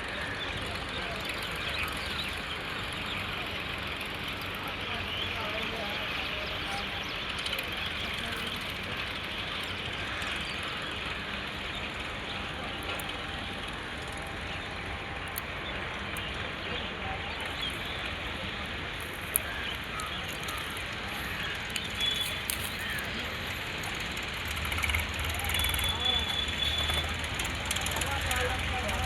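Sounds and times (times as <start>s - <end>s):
faint voices: 0.0s - 29.0s
tractor engine running: 0.0s - 29.0s.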